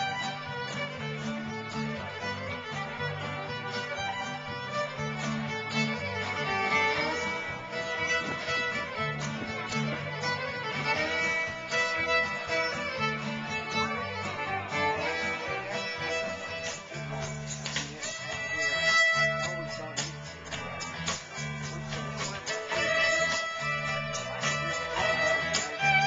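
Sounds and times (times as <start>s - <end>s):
fiddle playing lively tune: 0.0s - 26.0s
guitar accompaniment: 0.0s - 26.0s.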